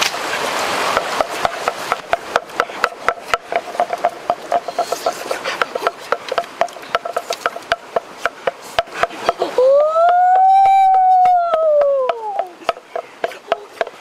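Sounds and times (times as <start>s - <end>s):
pestle pounding in mortar: 0.9s - 14.0s.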